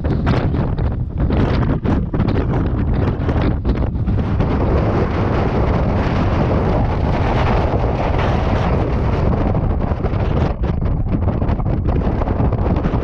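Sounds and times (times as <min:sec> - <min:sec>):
blizzard wind blasting microphone: 0:00.0 - 0:13.0.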